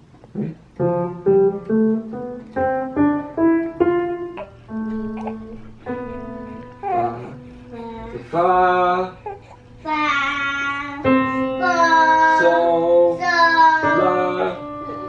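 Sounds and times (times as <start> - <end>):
faint piano: 0.0 - 15.0.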